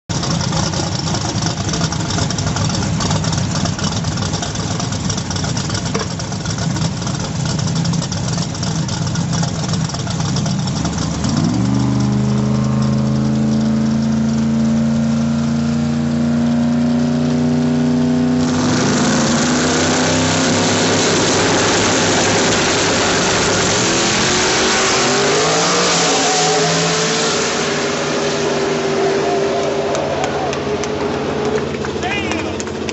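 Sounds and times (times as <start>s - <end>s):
drag racing car engine roaring: 0.1s - 32.9s.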